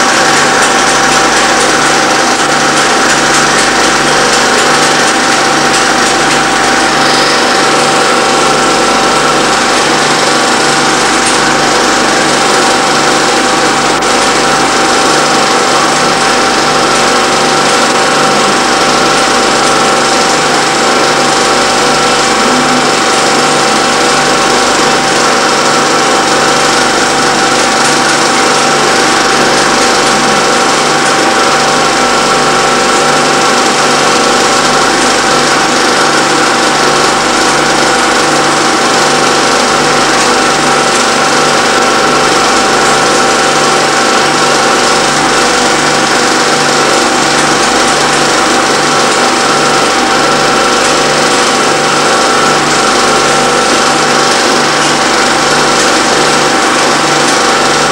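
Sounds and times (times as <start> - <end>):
film projector running: 0.0 - 57.9.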